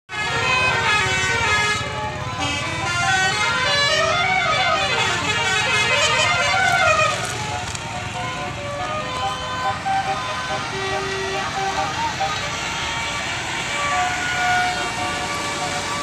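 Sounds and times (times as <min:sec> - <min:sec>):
bus engine rumble: 0:00.1 - 0:16.0
bus horn playing a melody: 0:00.1 - 0:16.0.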